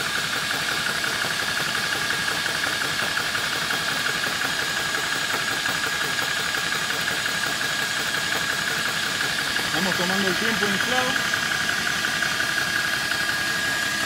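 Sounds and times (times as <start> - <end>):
air compressor pulsing: 0.0 - 14.0.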